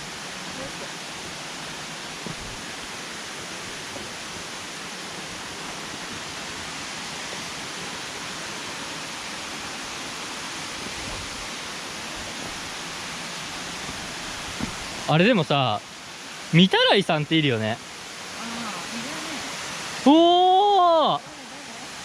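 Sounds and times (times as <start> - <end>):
waterfall pouring: 0.0 - 22.0.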